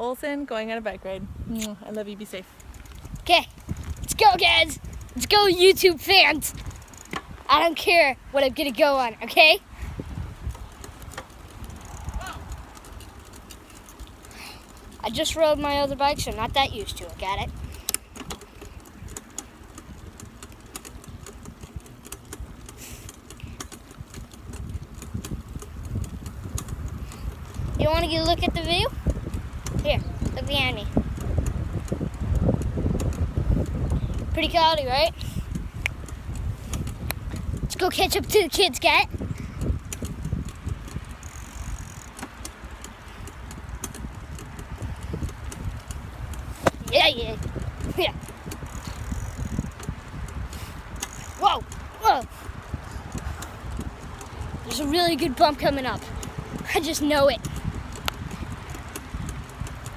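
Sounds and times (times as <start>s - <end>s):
bicycle clicking and rattling: 1.4s - 59.9s.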